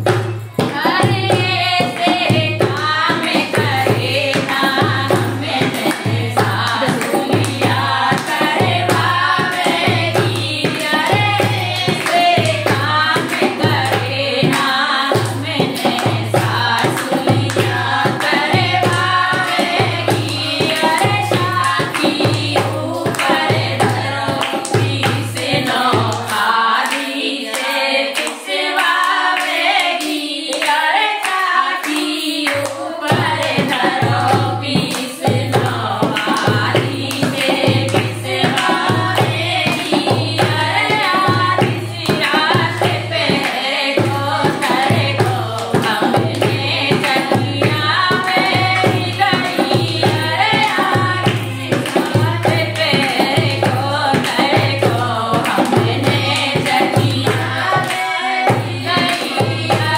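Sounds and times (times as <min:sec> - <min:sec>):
hand claps: 0:00.0 - 0:59.9
women singing folk song: 0:00.0 - 0:59.9.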